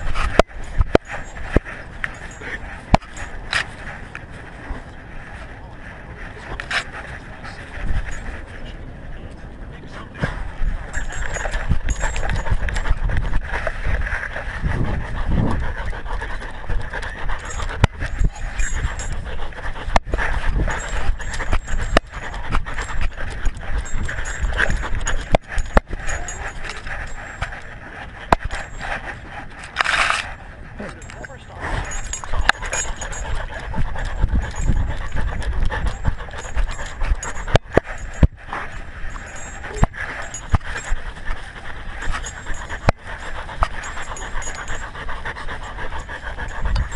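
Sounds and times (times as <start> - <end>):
camera rubbing against collar: 0.0 - 46.9
dog panting: 0.0 - 46.9.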